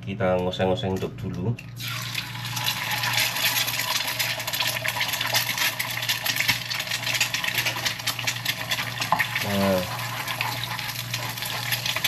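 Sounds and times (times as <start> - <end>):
egg sizzling in oil: 1.8 - 12.0.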